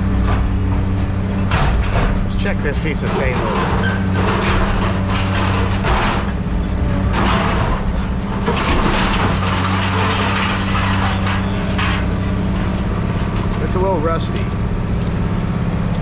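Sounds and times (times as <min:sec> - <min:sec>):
diesel engine running: 0:00.0 - 0:16.0
scrap metal scraping and clanking: 0:00.0 - 0:16.0.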